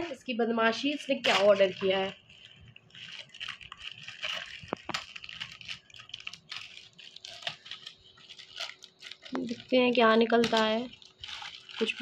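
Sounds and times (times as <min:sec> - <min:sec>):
plastic bag crinkling and tearing: 0:00.0 - 0:12.0.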